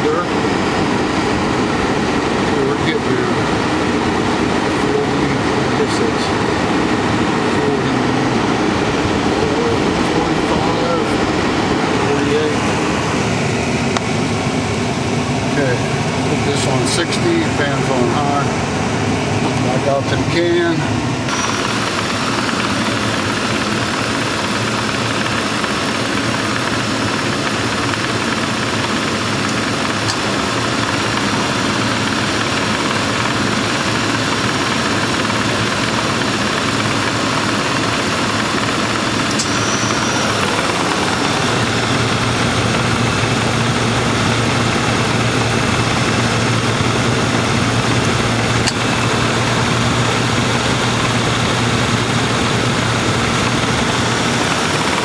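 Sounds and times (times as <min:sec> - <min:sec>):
deeper hum: 0:00.0 - 0:25.3, 0:27.7 - 0:55.0
air conditioning fans running: 0:00.0 - 0:55.0
car engine idling: 0:00.0 - 0:55.0.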